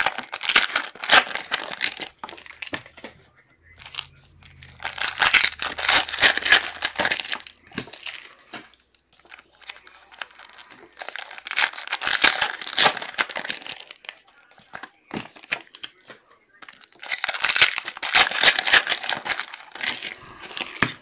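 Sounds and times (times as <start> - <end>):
foil wrappers crinkling and tearing: 0.0 - 21.0.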